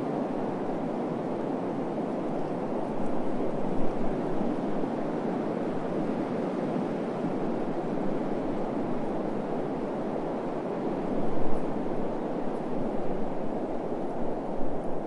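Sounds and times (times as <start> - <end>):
desert wind rushing: 0.0 - 15.0.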